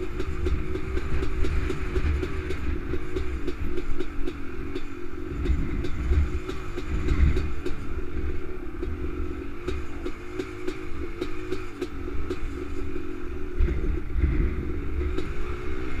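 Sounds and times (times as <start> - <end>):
atv engine running: 0.0 - 16.0
low uneven rumble: 0.0 - 16.0.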